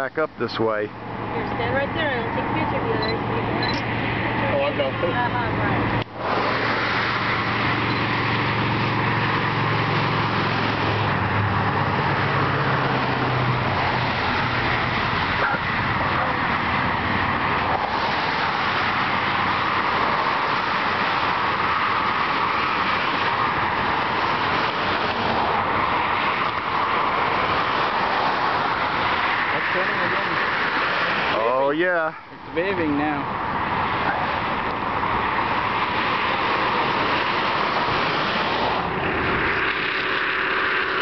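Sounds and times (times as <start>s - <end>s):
freeway traffic noise: 0.0s - 41.0s.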